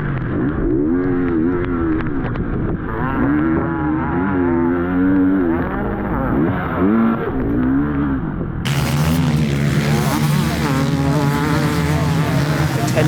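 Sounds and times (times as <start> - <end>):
motorbike engines revving: 0.0 - 13.0.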